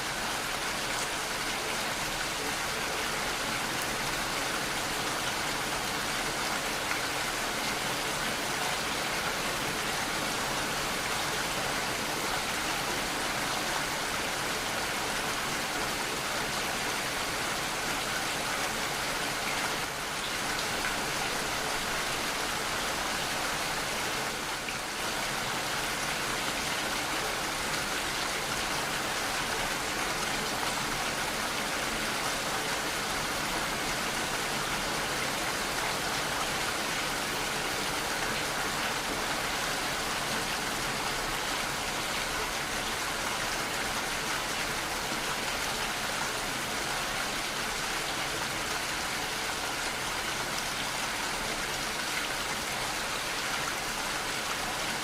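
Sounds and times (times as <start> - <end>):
rain pattering: 0.1 - 55.0.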